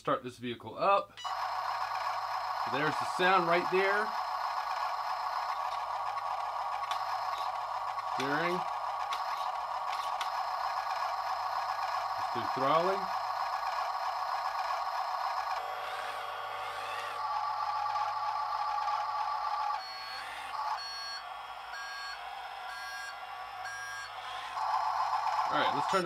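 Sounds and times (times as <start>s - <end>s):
reversing beeper: 1.2s - 26.0s
simulated truck engine through speaker: 1.3s - 26.0s.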